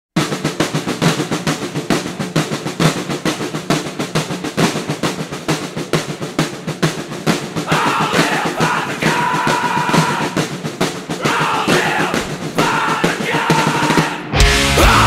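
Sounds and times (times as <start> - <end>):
fast drum hits: 0.2 - 15.0.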